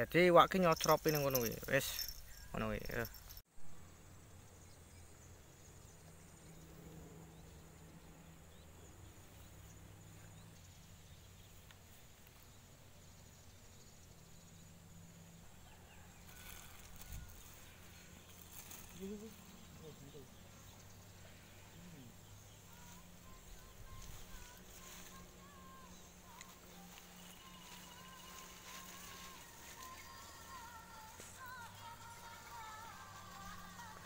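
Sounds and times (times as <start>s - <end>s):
steady low hum: 0.8s - 34.0s.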